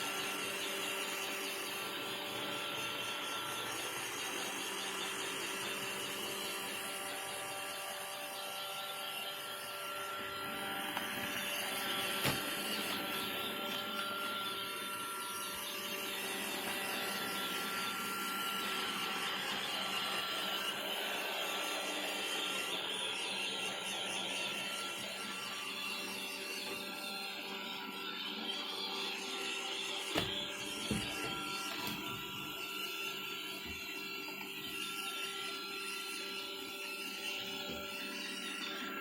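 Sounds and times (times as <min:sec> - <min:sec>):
robot vacuum running: 0:00.0 - 0:39.0.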